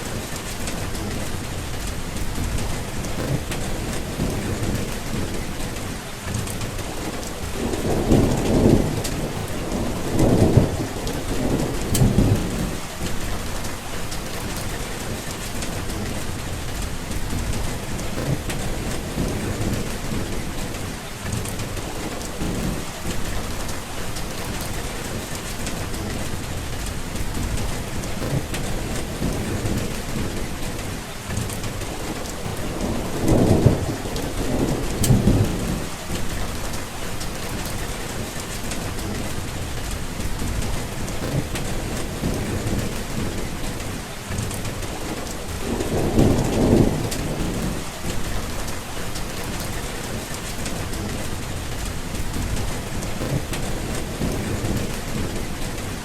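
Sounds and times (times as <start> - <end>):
low rumbles of thunder: 0.0 - 56.0
steady rain falling: 0.0 - 56.0.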